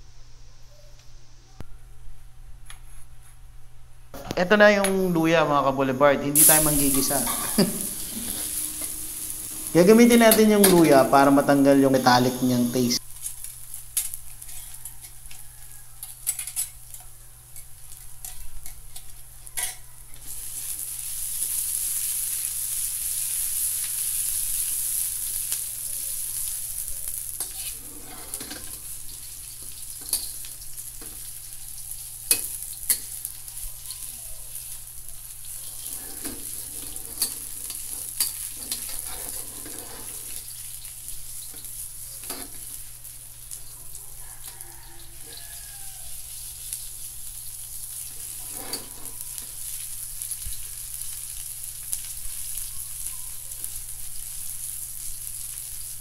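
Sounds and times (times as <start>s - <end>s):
ginger sizzling in oil: 6.3s - 56.0s.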